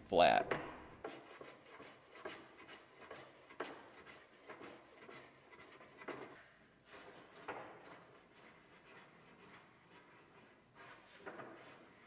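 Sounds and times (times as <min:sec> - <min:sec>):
hand plane shaving wood: 0:01.0 - 0:12.0.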